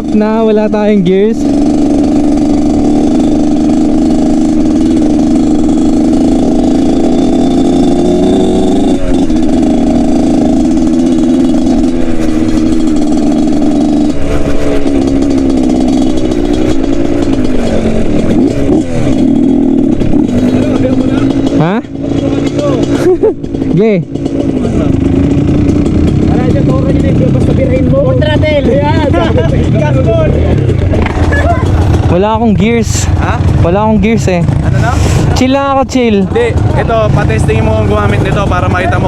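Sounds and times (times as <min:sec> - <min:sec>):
motorcycle engine revving high: 0:00.0 - 0:39.0.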